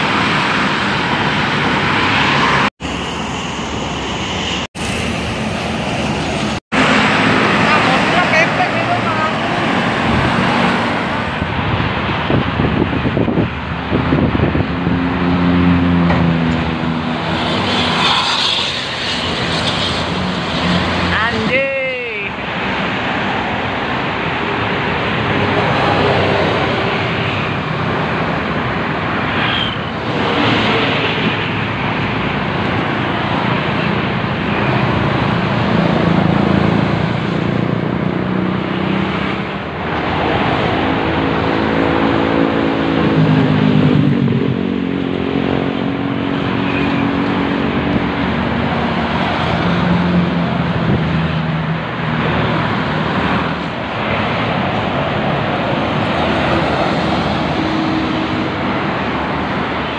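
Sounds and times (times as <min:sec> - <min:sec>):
bus engine passing: 0:00.0 - 0:21.4, 0:22.4 - 0:59.9
traffic passing at speed: 0:00.0 - 0:59.9.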